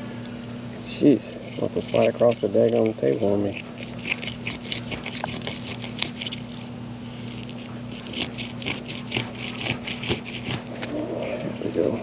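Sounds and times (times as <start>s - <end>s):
steady low hum: 0.0s - 12.0s
knife scraping fish: 1.3s - 12.0s.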